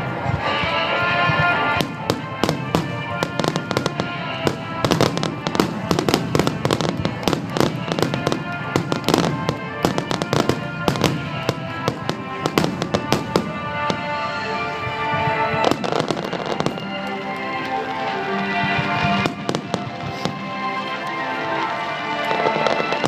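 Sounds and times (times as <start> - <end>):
music with long held notes: 0.0 - 23.0
fireworks exploding: 0.2 - 23.0.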